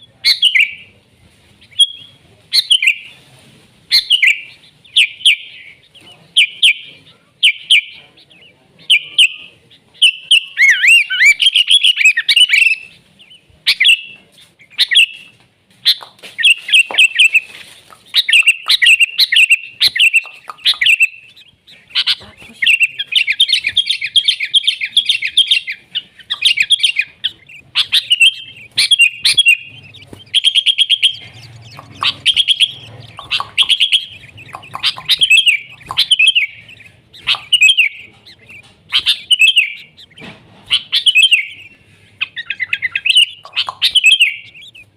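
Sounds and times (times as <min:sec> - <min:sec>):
bulbul chirping and trilling: 0:00.0 - 0:01.0, 0:01.6 - 0:03.2, 0:03.9 - 0:44.9.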